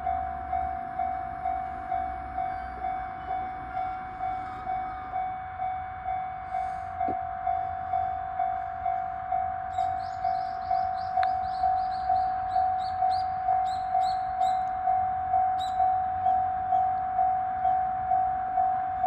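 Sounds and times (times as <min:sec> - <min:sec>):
level crossing warning bell ringing: 0:00.0 - 0:19.0.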